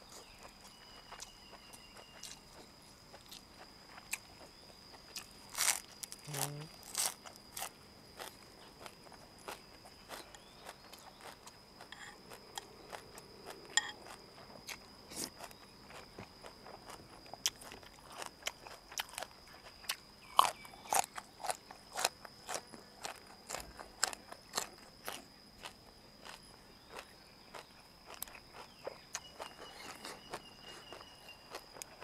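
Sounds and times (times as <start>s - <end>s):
wet chewing and crunching: 0.0s - 32.0s.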